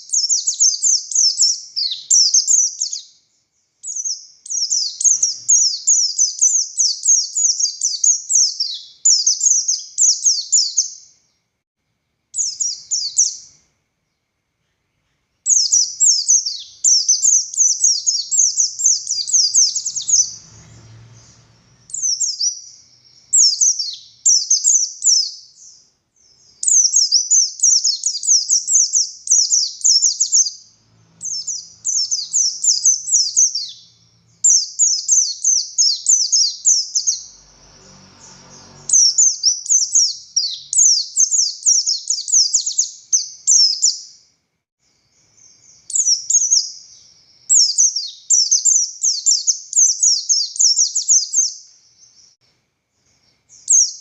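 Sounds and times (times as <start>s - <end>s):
bird twittering song: 0.0s - 11.5s, 12.3s - 44.3s, 44.9s - 54.0s.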